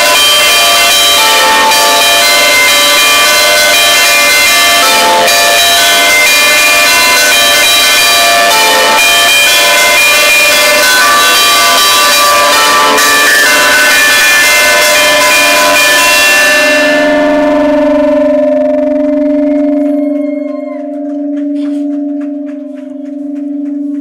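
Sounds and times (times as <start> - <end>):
church bells ringing: 0.0 - 24.0
low hum of bells: 0.0 - 24.0.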